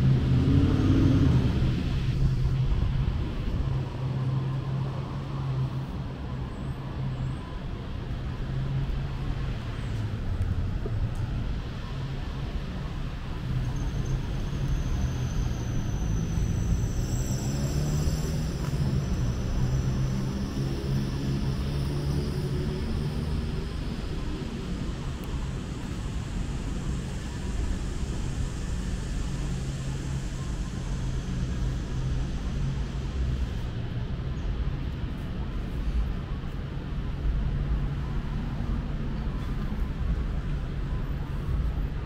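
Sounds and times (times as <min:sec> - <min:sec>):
city street ambience: 0:00.0 - 0:42.0.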